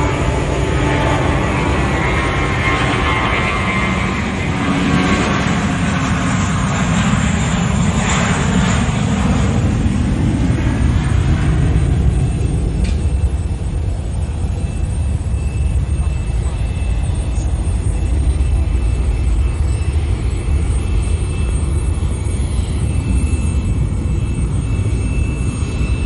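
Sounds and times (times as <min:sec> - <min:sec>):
jet engines roaring at takeoff: 0:00.0 - 0:26.0.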